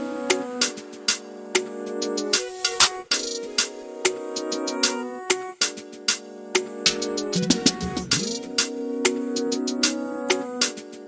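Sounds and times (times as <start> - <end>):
electronic background music: 0.0 - 11.0.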